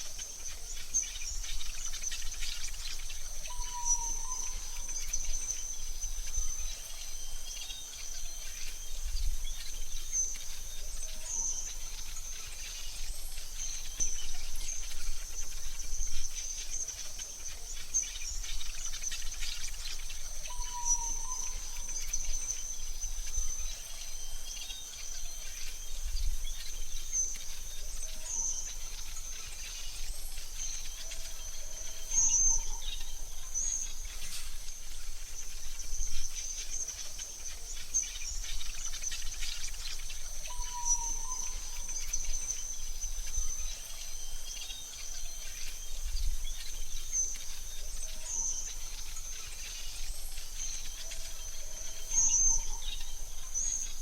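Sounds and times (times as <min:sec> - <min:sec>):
bird chirps: 0:00.0 - 0:54.0
insect trill: 0:00.0 - 0:54.0.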